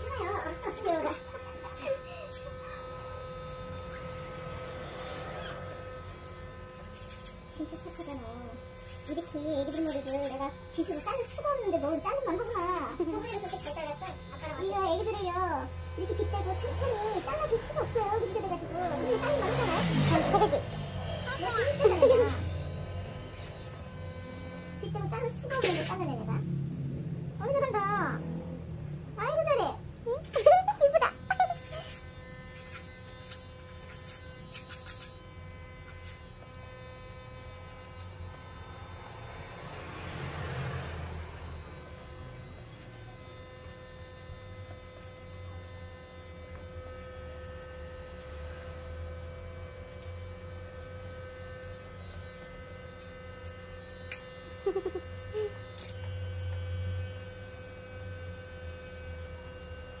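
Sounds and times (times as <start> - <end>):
electric hair clipper buzzing: 0.0 - 60.0.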